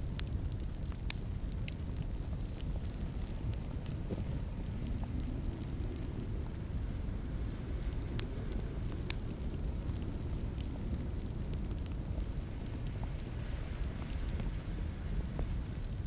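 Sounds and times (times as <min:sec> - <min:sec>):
fire burning with crackles: 0:00.0 - 0:16.0.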